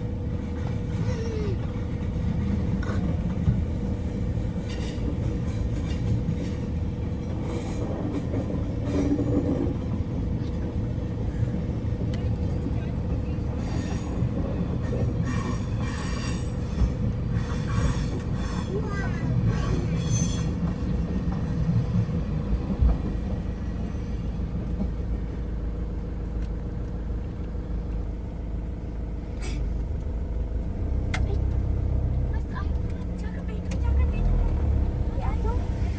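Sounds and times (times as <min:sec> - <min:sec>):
constant hum: 0:00.0 - 0:35.9
train rumbling on rails: 0:00.0 - 0:35.9.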